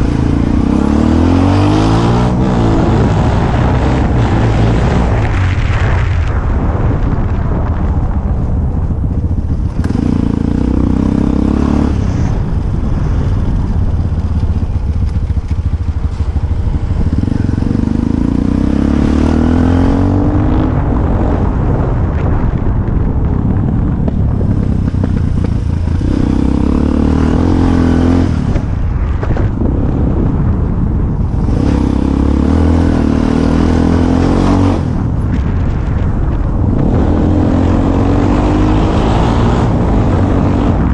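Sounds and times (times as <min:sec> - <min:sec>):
motorcycle engine accelerating: 0:00.0 - 0:40.9
wind rumbling on microphone: 0:00.0 - 0:40.9.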